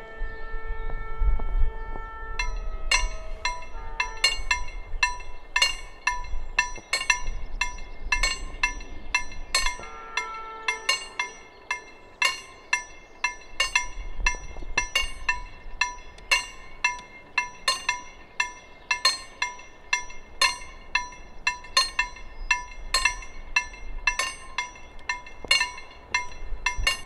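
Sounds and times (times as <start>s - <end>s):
level crossing bells ringing: 2.4s - 27.0s.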